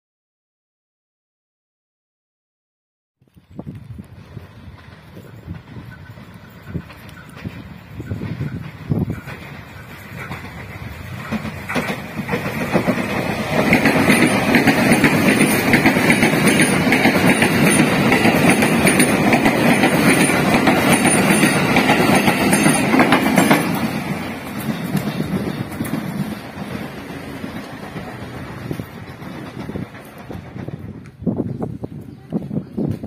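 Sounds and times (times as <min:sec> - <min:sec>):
train wheels rumbling on rails: 0:03.4 - 0:33.0.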